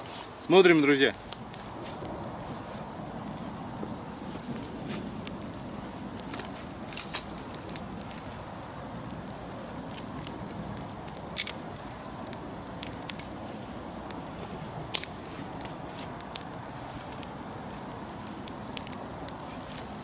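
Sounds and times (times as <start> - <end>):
campfire hissing and crackling: 0.0 - 20.0
sharp pops of fire: 0.0 - 20.0.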